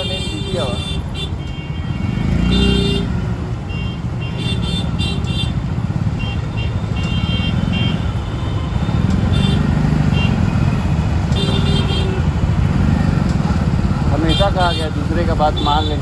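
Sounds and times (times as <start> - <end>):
traffic engines rumbling: 0.0 - 16.0.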